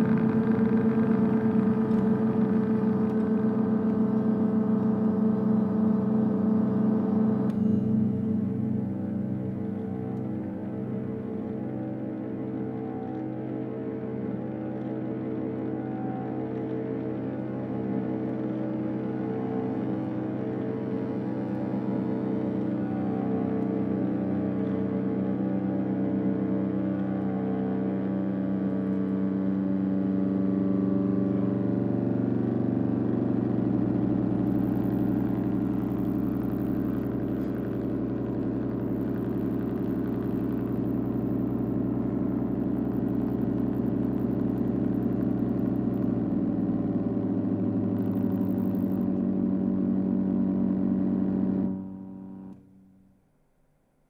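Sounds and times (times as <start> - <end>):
droning amplified guitars: 0.0 - 52.9
deep low hum: 0.0 - 53.1.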